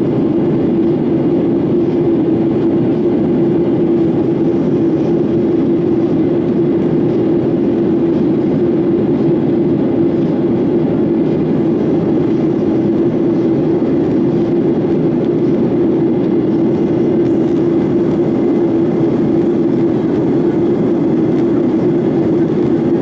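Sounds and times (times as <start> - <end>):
airplane cabin jet engine drone: 0.0 - 23.0.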